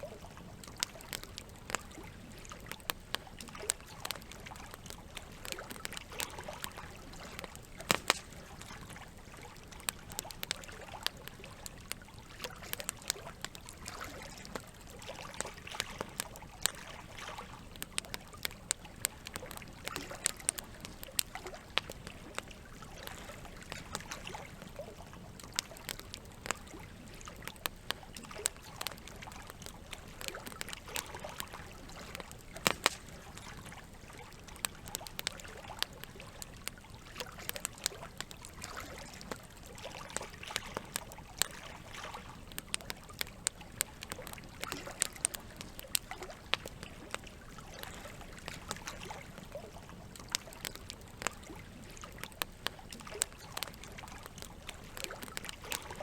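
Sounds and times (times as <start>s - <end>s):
campfire crackling and popping: 0.0s - 56.0s
running water trickling: 0.0s - 56.0s.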